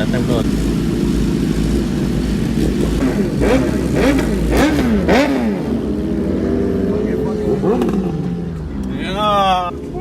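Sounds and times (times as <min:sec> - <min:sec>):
engine revving: 0:00.0 - 0:08.7
engines idling: 0:00.0 - 0:10.0.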